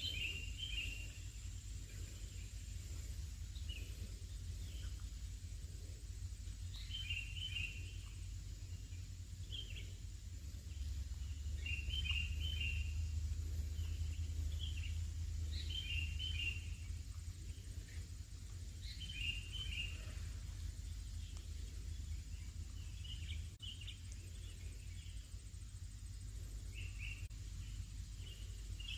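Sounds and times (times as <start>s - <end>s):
low rumble: 0.0s - 28.8s
bird chirping: 0.0s - 28.9s.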